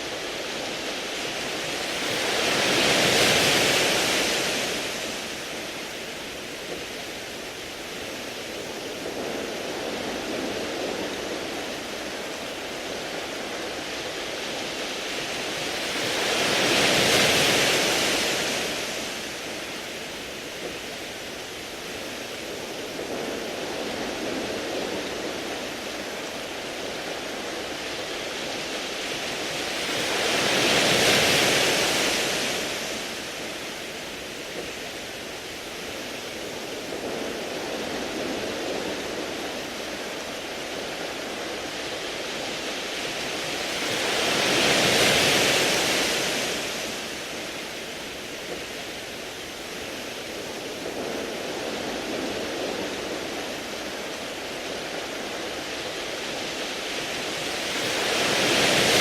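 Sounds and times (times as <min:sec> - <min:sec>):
waves on pebble beach: 0:00.0 - 0:59.0.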